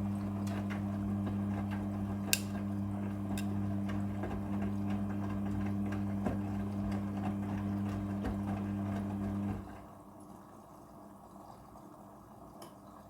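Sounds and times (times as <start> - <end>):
washing machine hum: 0.0 - 13.0.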